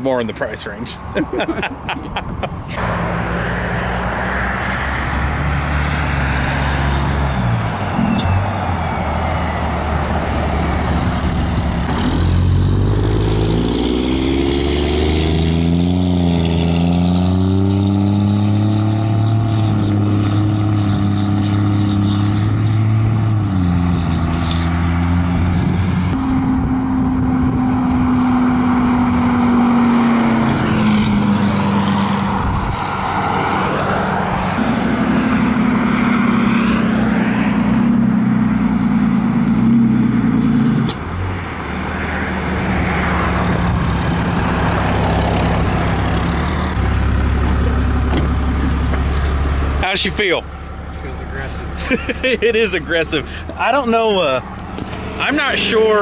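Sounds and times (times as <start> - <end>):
tyre and road noise: 0.0 - 56.0
diesel pickup truck driving past: 1.3 - 56.0.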